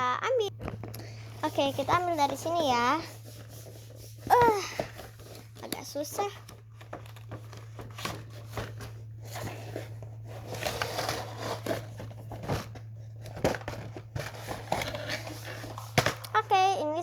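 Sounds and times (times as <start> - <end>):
cardboard and plastic crinkling: 0.6 - 16.7.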